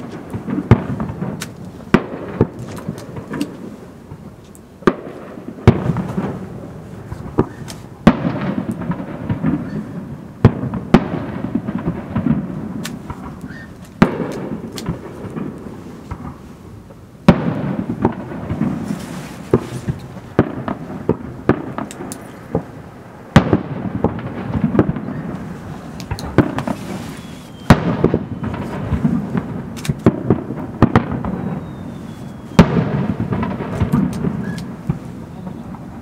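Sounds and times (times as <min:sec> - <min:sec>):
small firework cracks and pops: 0:00.0 - 0:16.4, 0:17.2 - 0:36.0
fireworks booming with echo: 0:00.0 - 0:36.0.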